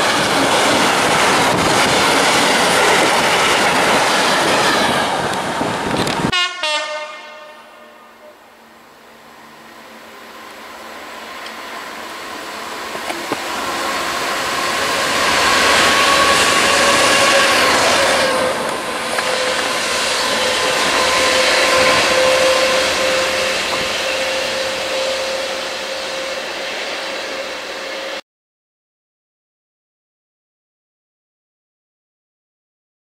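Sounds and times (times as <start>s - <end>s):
diesel locomotive engine passing: 0.0s - 28.2s.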